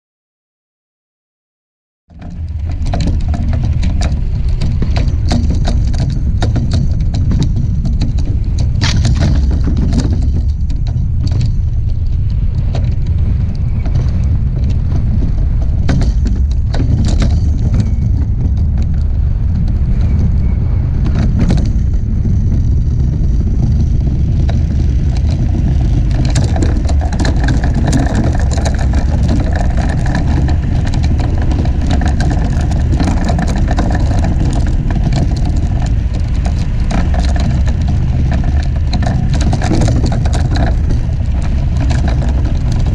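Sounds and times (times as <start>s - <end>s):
iceboat runners rumbling on ice: 2.1s - 42.9s.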